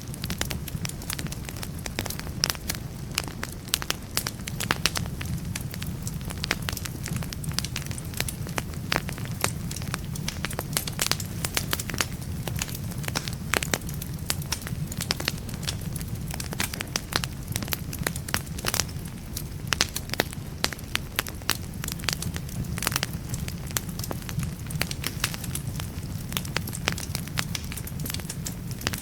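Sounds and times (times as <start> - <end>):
low rush of flame: 0.0 - 29.0
wood fire crackling and popping: 0.0 - 29.0.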